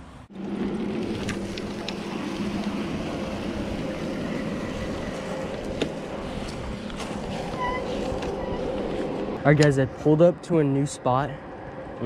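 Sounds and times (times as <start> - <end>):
bike riding drone: 0.0 - 12.0.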